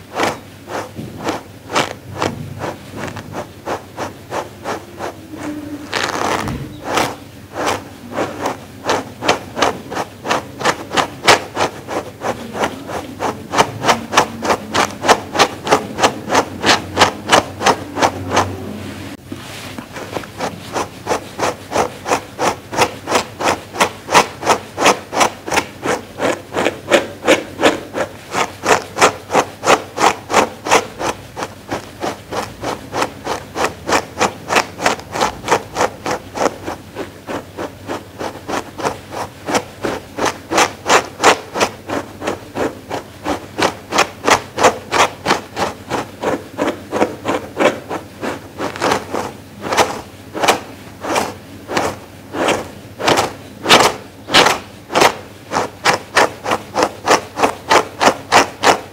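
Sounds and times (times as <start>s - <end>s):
brush rubbing on fleece: 0.0s - 58.9s.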